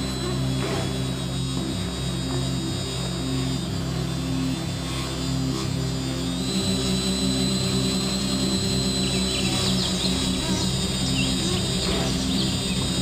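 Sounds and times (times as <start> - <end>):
background music with low notes: 0.0 - 13.0
steady high whine: 0.0 - 13.0.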